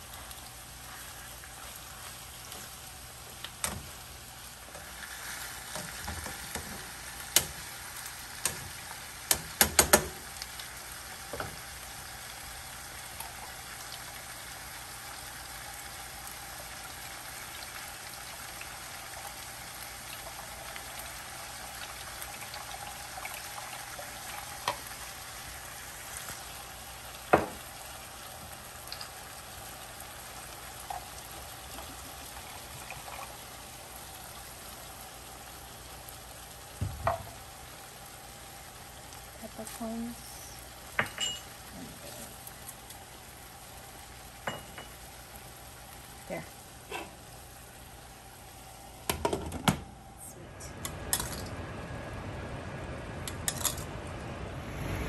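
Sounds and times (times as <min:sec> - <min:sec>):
chicken sizzling in oil: 0:00.0 - 0:49.2.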